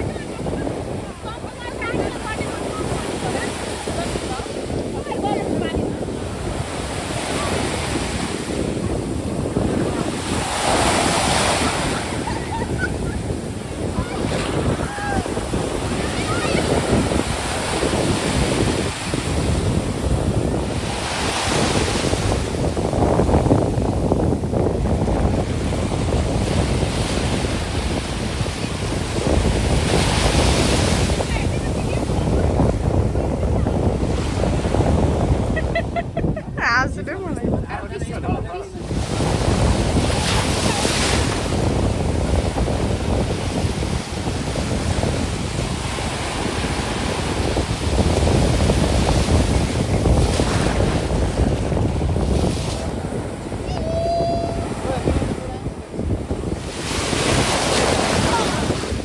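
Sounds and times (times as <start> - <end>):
ocean surf washing onto beach: 0.0 - 59.0
wind buffeting microphone: 0.0 - 59.0.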